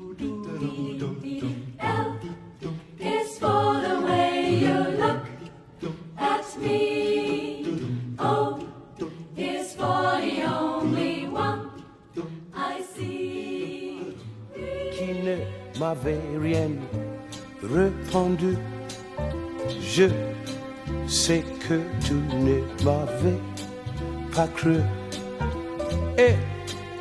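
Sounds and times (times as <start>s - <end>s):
choir singing a cappella: 0.0s - 24.0s.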